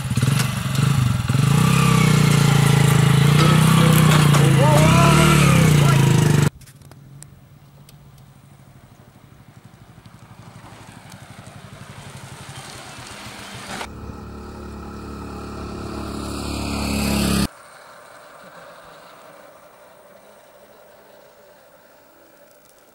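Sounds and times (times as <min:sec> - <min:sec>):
motorcycle engine running: 0:00.0 - 0:06.5, 0:08.3 - 0:21.2.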